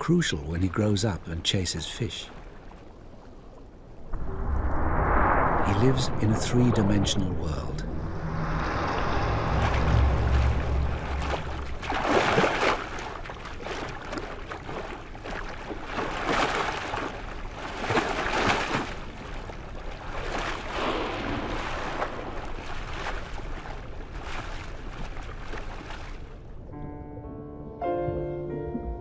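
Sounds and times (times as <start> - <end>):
water swishing and rushing: 0.0 - 26.8.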